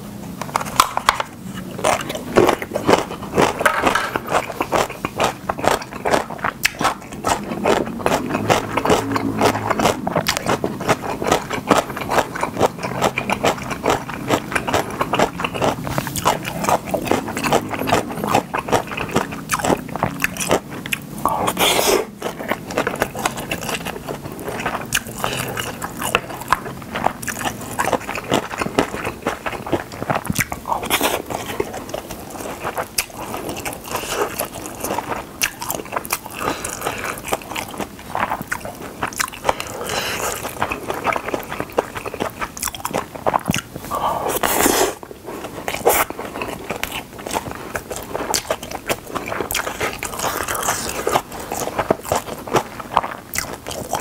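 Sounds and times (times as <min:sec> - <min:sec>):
wet chewing and mouth smacks: 0:00.6 - 0:54.0.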